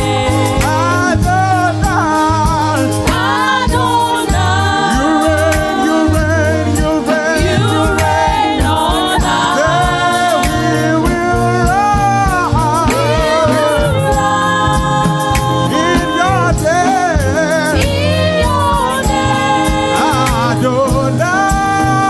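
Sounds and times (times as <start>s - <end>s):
band with bass and beat: 0.0s - 22.0s
worship team singing: 0.0s - 22.0s.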